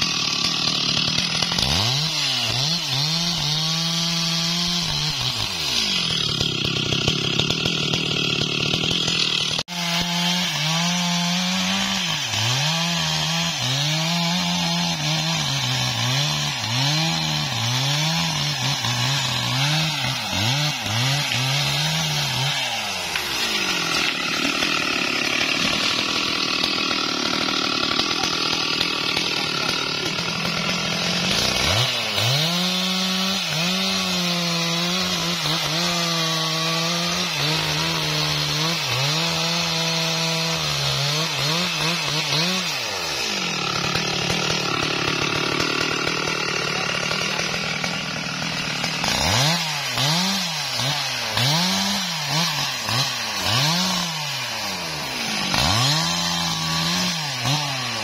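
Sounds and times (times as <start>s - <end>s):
chainsaw cutting trunk: 0.0s - 58.0s.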